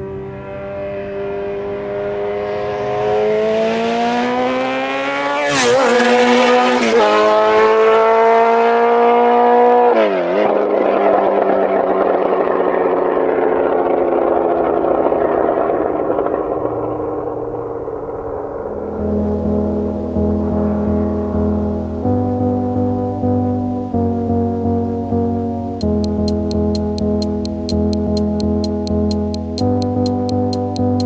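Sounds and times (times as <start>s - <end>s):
motorcycle accelerating hard: 0.0s - 31.0s.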